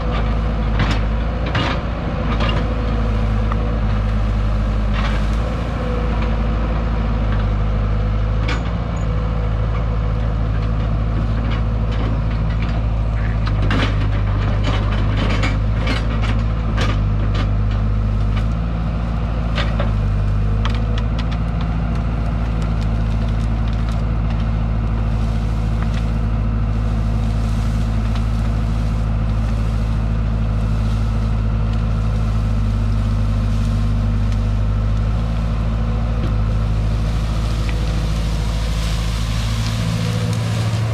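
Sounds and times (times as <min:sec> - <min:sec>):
branches cracking and snapping: 0:00.0 - 0:08.5, 0:09.5 - 0:40.9
excavator engine running under load: 0:00.0 - 0:40.9.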